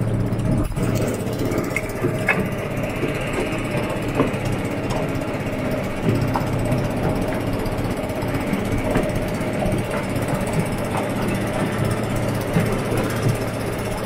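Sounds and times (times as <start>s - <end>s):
small boat motor running: 0.0s - 14.0s.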